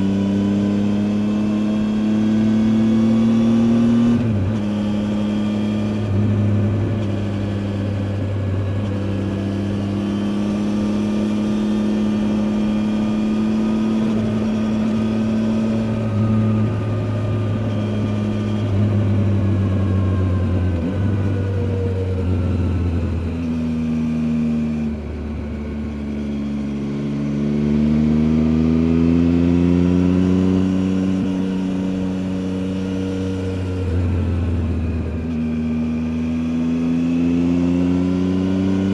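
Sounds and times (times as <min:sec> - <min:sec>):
motorcycle engine running: 0:00.0 - 0:37.8.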